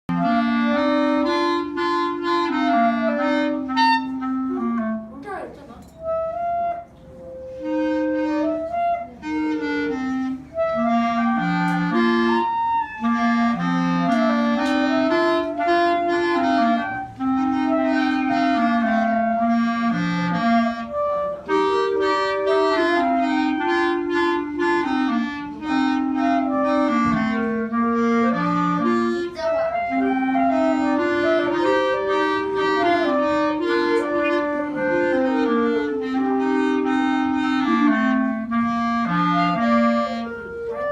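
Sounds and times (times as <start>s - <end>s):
clarinet duet playing a polka: 0.0s - 40.9s.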